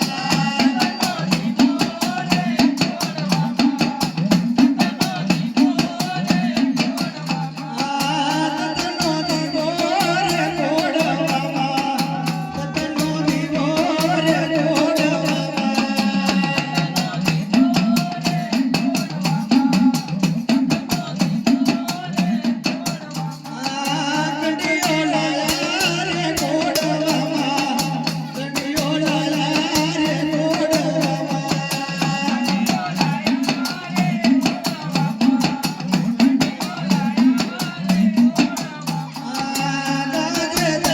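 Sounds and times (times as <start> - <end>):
fast drum beats: 0.0 - 40.9
rattle beats: 0.0 - 40.9.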